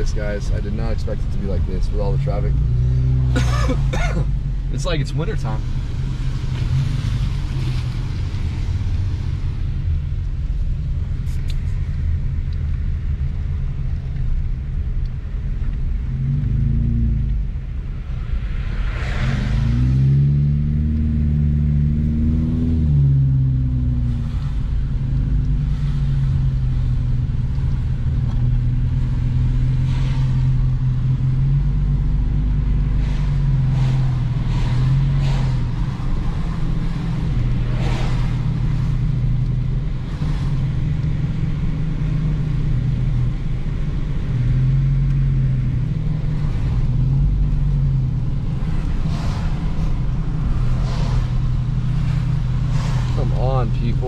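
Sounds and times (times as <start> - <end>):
car engine accelerating: 0.0 - 54.0
road noise inside car: 0.0 - 54.0.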